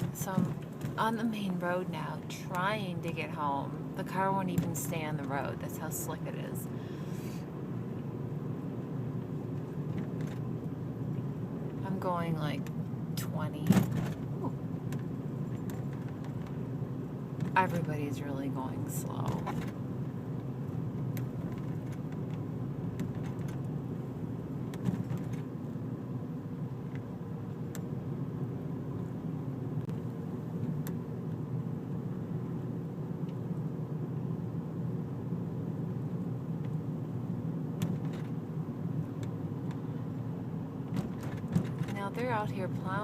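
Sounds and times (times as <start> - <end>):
car cabin drone: 0.0 - 43.0.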